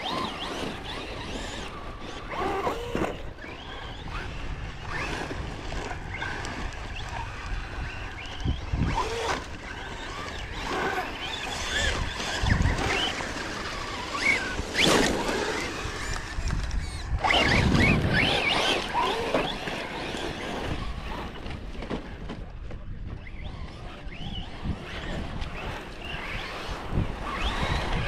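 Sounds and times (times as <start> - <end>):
electric motor whining: 0.0 - 22.1, 23.2 - 28.0
wind rumbling on microphone: 0.0 - 28.0.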